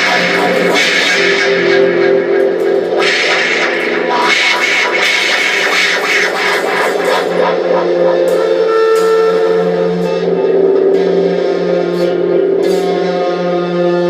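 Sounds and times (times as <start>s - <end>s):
sustained instrumental notes: 0.0s - 13.3s.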